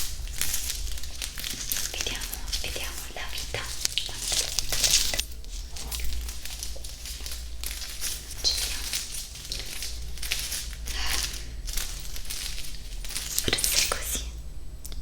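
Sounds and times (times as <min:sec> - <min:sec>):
crinkly crackling swishes: 0:00.0 - 0:14.5.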